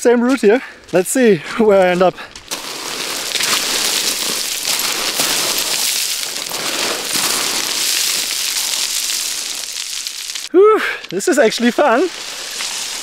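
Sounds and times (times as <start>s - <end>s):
boots skidding on loose gravel: 0.3s - 10.5s, 11.5s - 13.0s.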